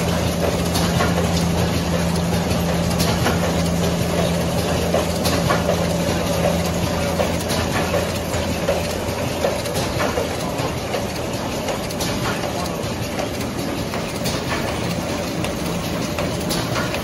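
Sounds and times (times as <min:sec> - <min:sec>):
packing machine humming: 0:00.0 - 0:17.0.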